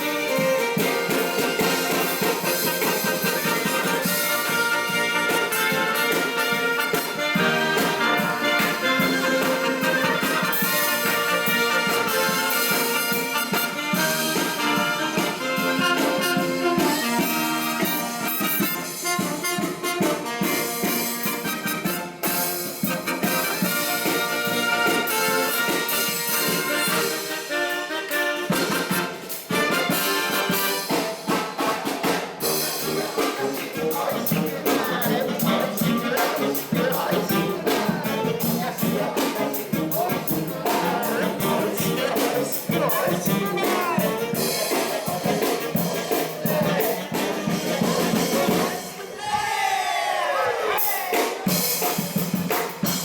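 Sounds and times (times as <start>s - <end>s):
brass band playing: 0.0s - 53.0s.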